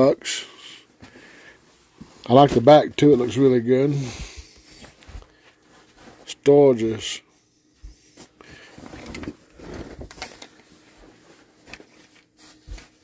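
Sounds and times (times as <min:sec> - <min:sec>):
fabric rustling and handling: 0:00.9 - 0:06.5, 0:07.7 - 0:13.0.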